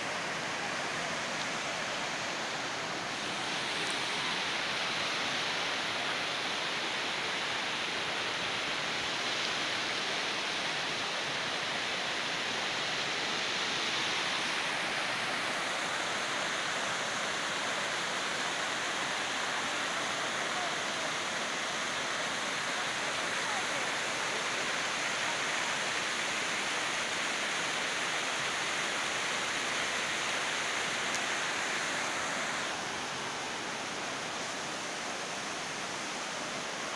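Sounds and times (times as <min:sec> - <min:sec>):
waterfall rushing over rocks: 0:00.0 - 0:36.9.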